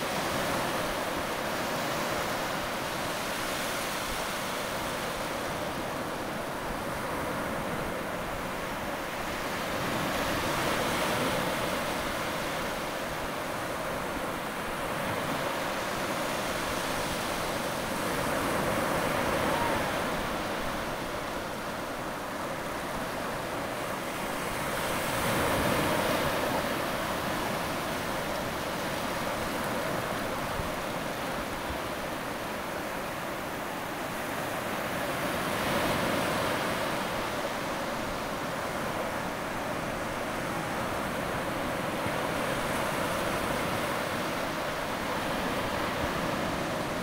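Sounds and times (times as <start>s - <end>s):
ocean surf on beach: 0.0s - 47.0s.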